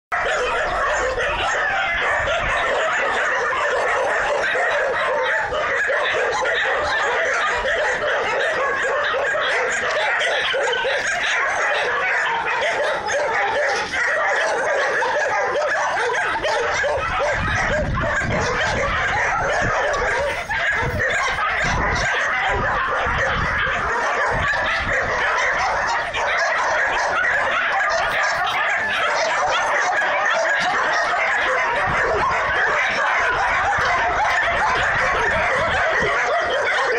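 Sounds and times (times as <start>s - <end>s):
din of animal calls: 0.1s - 36.9s
dogs barking: 0.1s - 36.9s.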